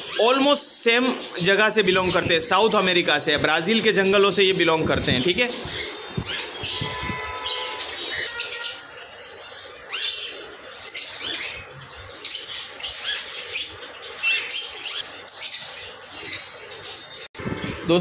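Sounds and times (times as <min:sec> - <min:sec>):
birds chirping and squawking: 0:00.0 - 0:18.0.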